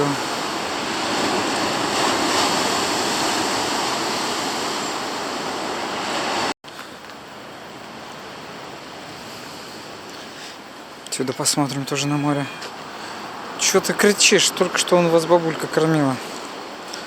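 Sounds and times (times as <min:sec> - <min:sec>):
surf breaking on shore: 0:00.0 - 0:17.0.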